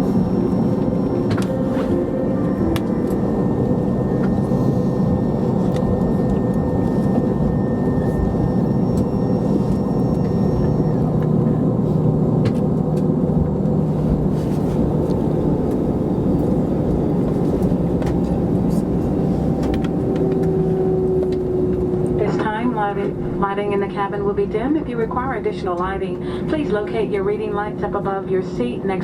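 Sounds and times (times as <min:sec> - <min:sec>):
airplane cabin rumble and hum: 0:00.0 - 0:29.0.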